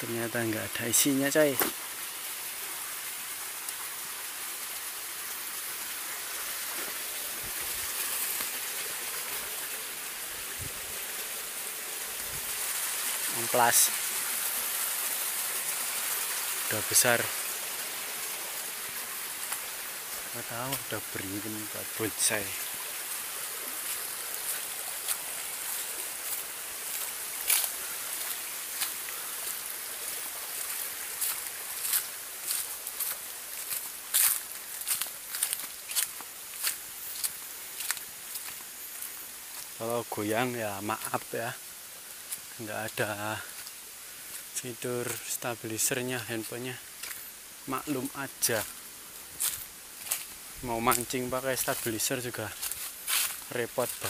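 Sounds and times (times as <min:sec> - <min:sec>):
steady hiss: 0:00.0 - 0:54.0
stream flowing: 0:00.0 - 0:54.0
footsteps on dry leaves and grass: 0:06.2 - 0:39.8, 0:42.2 - 0:45.4, 0:46.8 - 0:54.0.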